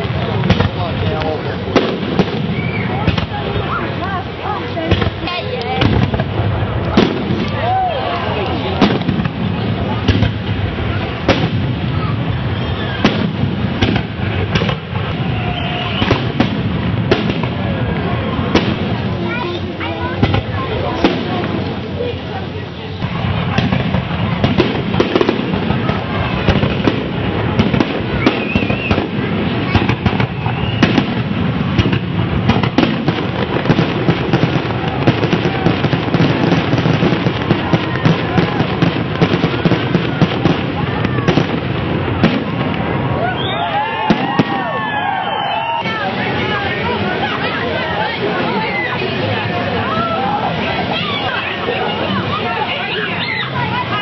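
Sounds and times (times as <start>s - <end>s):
crowd murmuring: 0.0s - 54.0s
fireworks banging: 0.0s - 54.0s.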